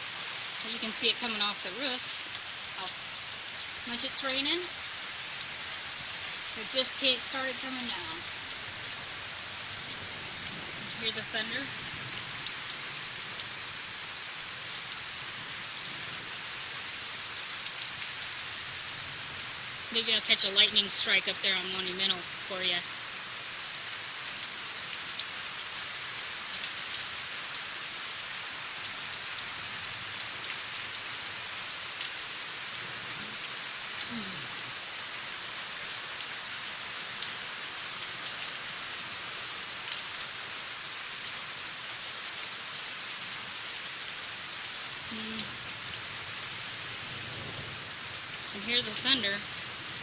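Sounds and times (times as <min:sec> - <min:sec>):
hard rain hissing: 0:00.0 - 0:50.0
raindrops ticking: 0:00.0 - 0:50.0.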